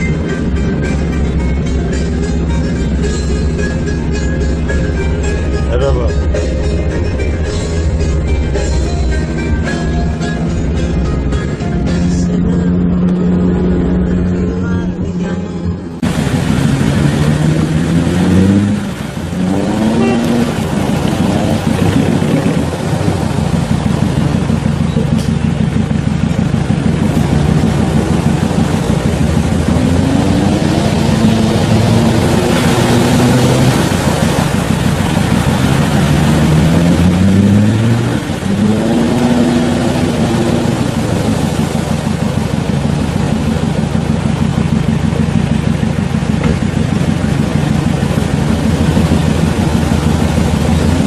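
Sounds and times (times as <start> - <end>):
car engine revving: 0.0 - 51.0
steady noisy rush: 0.0 - 51.0.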